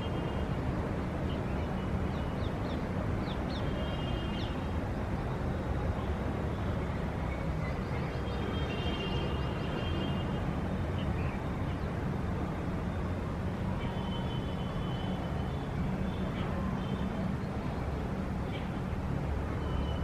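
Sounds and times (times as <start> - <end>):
distant city traffic rumble: 0.0 - 20.0.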